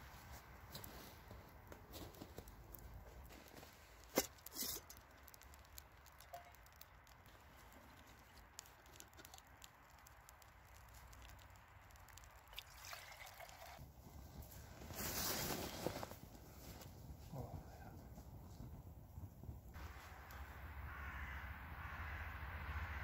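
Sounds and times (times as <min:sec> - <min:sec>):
log fire crackling: 0:00.0 - 0:20.8.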